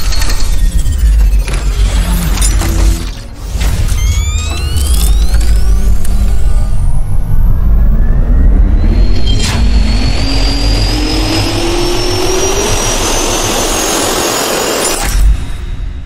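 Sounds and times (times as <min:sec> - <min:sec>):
heavy low rumble: 0:00.0 - 0:13.3
jet engine whine rising: 0:00.1 - 0:16.0.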